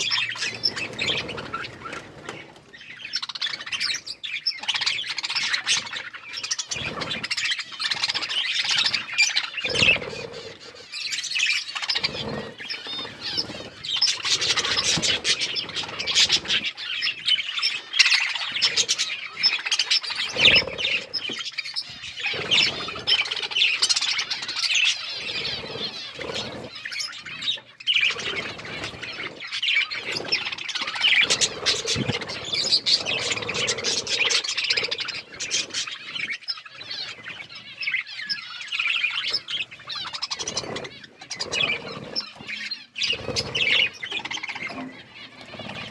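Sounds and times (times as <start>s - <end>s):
budgerigars chirping: 0.0s - 45.9s.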